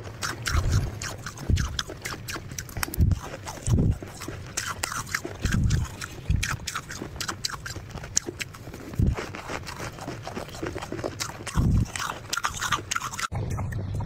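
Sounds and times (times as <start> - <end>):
frost being chewed crunching: 0.0 - 13.9.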